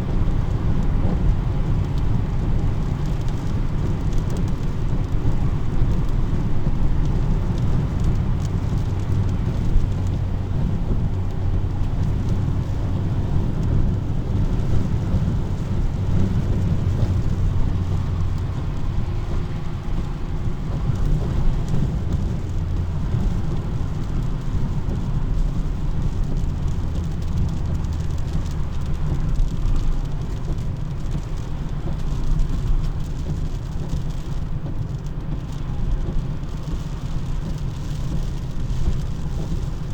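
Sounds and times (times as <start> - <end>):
car noise on wet road: 0.0 - 39.9
steady rain: 0.0 - 39.9.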